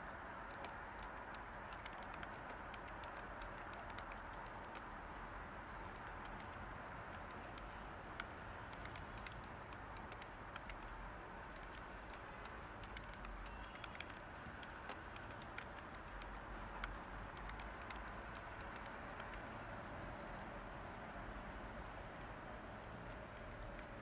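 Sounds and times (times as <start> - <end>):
keyboard typing: 0.0 - 19.6, 22.8 - 24.0
steady white noise hiss: 0.0 - 24.0.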